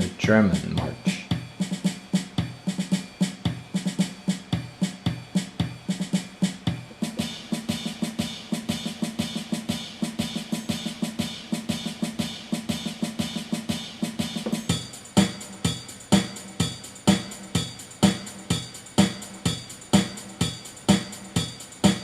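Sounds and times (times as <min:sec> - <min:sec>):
drum-kit beat: 0:00.0 - 0:22.0.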